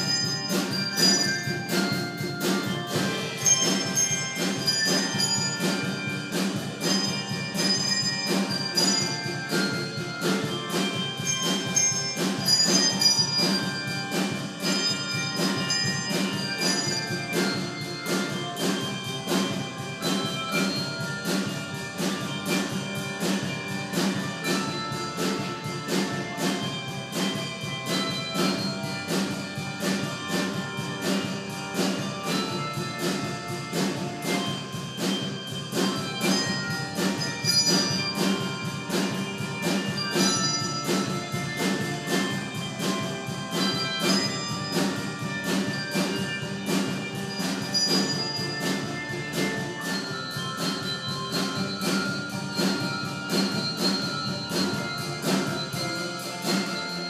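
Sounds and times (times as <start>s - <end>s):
handbell choir playing: 0.0s - 57.0s.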